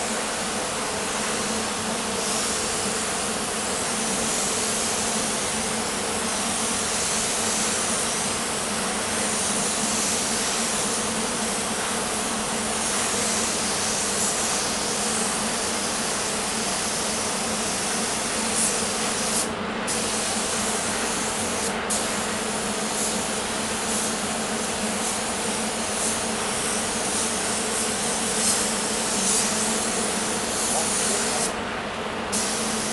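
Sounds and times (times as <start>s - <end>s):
paint spray gun hissing: 0.0s - 31.6s, 32.3s - 32.9s.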